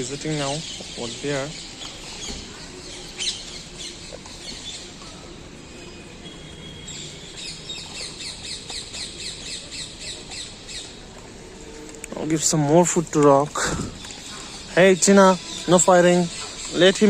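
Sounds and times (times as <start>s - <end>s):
birds calling and chattering: 0.0s - 17.0s.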